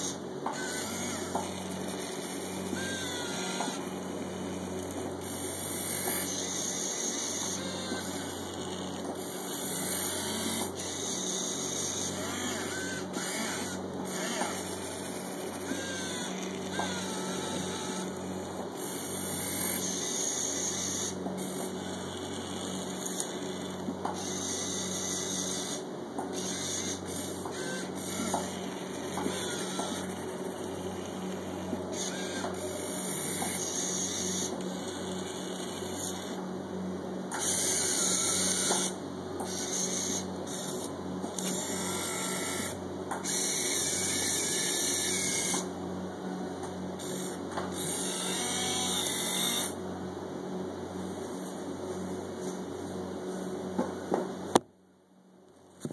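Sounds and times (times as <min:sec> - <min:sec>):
small electric motors whirring: 0:00.0 - 0:36.5, 0:37.3 - 0:45.7, 0:46.7 - 0:49.8
steady low hum: 0:00.0 - 0:55.9.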